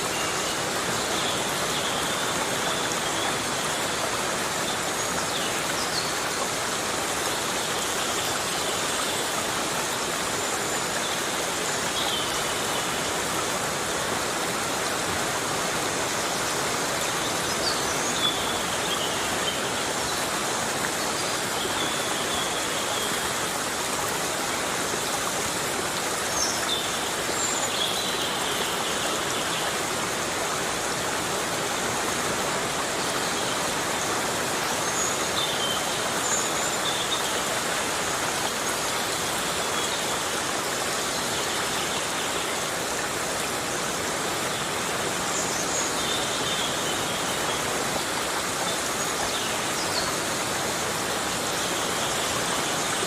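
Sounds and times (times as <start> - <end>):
heavy rain on foliage: 0.0 - 53.0.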